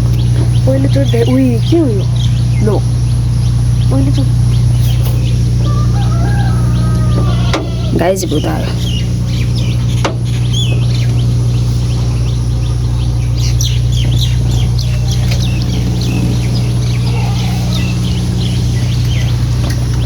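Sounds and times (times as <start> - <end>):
birds chirping: 0.0 - 20.0
low machine hum: 0.0 - 20.0.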